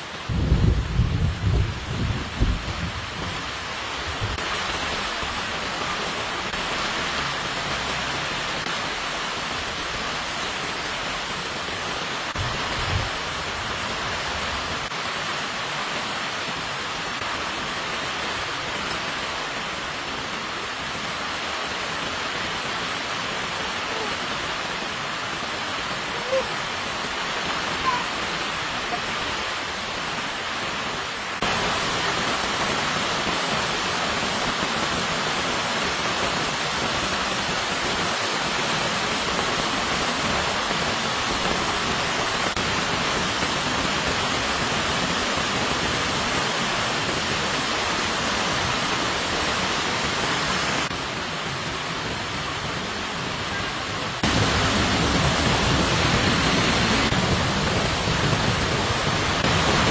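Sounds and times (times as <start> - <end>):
heavy rain hiss: 0.0 - 59.9.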